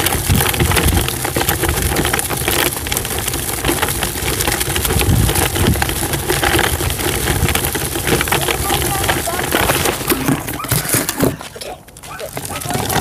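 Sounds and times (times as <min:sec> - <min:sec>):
microphone handling crackle: 0:00.0 - 0:13.0.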